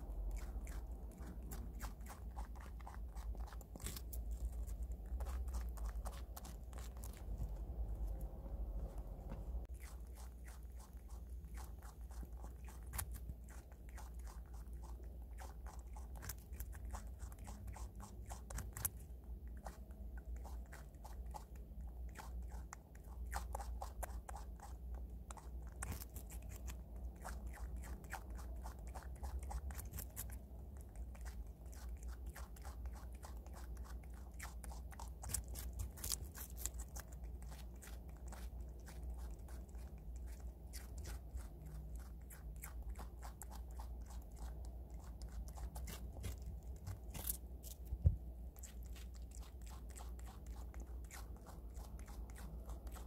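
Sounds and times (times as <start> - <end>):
animal crunching raw vegetable: 0.0 - 53.0.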